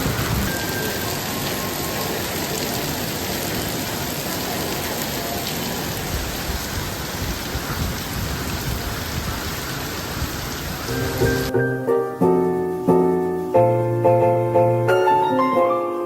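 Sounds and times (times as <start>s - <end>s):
heavy rain on hard surfaces: 0.0s - 16.0s.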